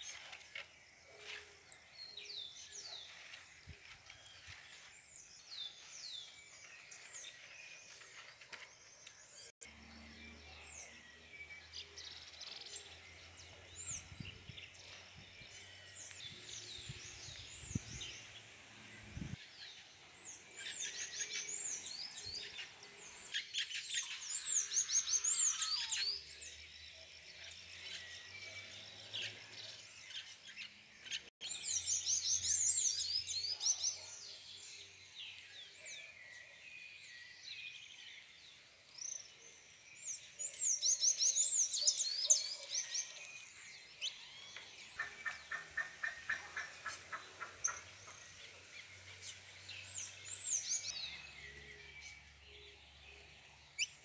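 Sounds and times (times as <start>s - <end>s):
small songbirds chirping: 0.0s - 54.0s.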